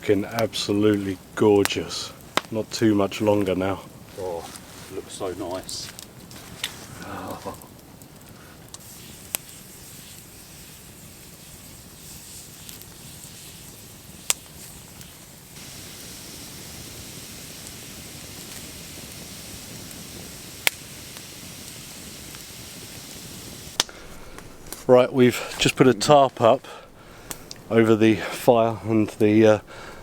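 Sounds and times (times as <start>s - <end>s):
campfire hissing: 0.0s - 30.0s
fire pops: 0.0s - 30.0s.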